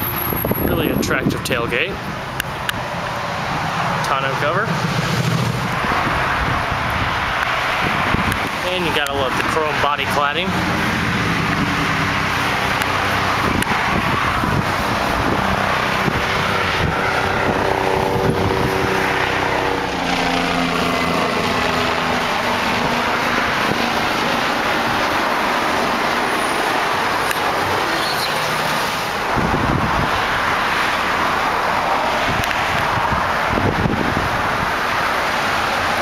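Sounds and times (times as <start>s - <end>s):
highway traffic noise: 0.0s - 36.0s
vehicle passing by: 0.0s - 36.0s.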